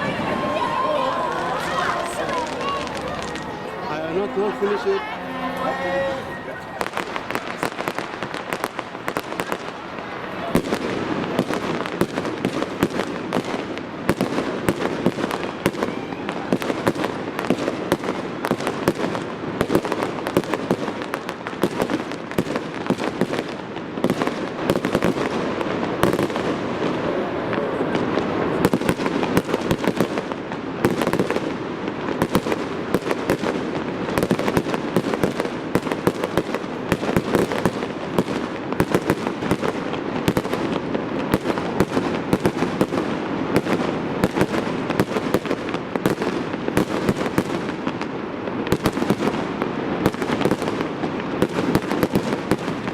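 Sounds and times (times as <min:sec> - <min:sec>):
fireworks bangs and crackles: 0:00.0 - 0:05.7, 0:06.3 - 0:52.9.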